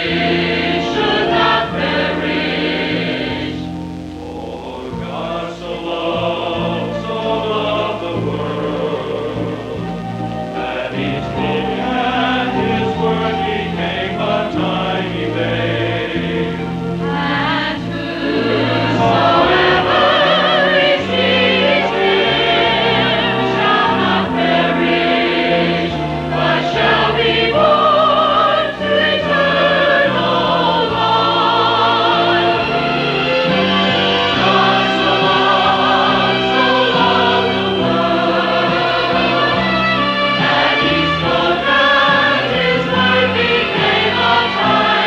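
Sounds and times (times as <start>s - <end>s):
choir singing with vibrato: 0.0s - 45.0s
instrumental accompaniment: 0.0s - 45.0s
steady bass line: 0.0s - 45.0s.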